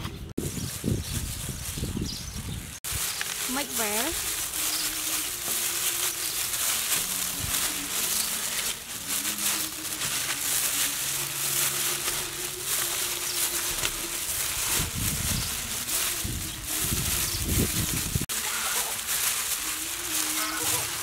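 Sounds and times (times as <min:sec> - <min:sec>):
plastic bag crinkling: 0:00.4 - 0:21.0.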